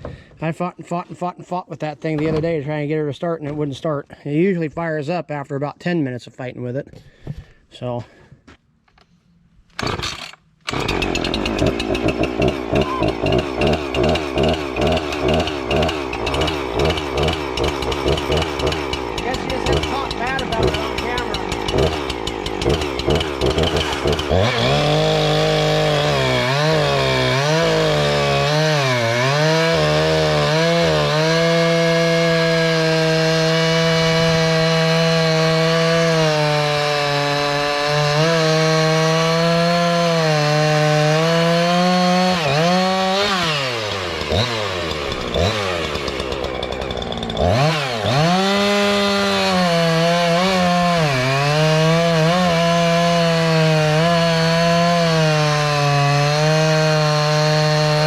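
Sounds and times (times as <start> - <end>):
chainsaw running at high revs: 9.8 - 58.0.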